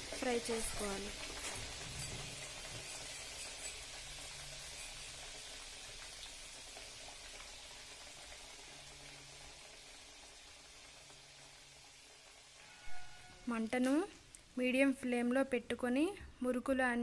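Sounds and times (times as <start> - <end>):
food deep-frying in oil: 0.0 - 17.0
sizzle with small crackles: 0.0 - 17.0.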